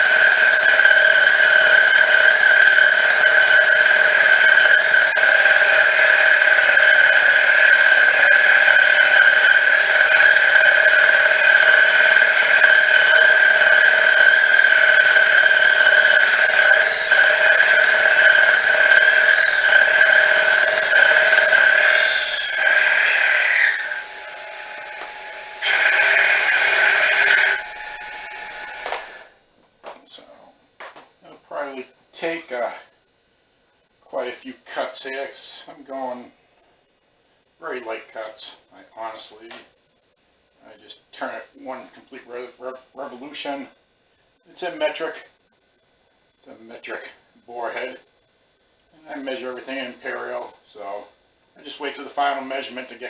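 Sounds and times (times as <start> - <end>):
milling cutter high-pitched whine: 0.0 - 53.0.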